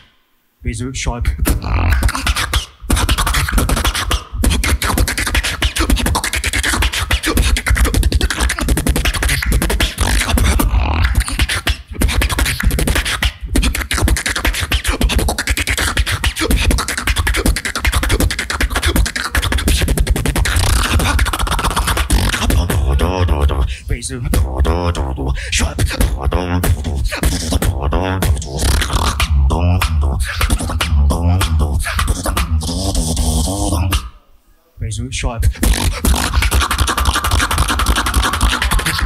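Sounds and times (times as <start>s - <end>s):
person beatboxing: 1.2s - 34.2s, 35.4s - 39.0s.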